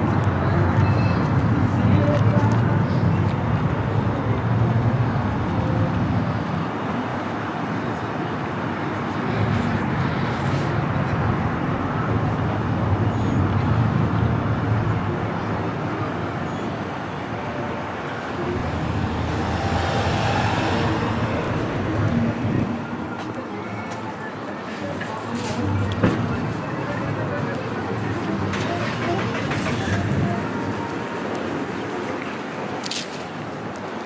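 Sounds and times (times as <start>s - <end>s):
rumble of passing cars: 0.0s - 34.0s.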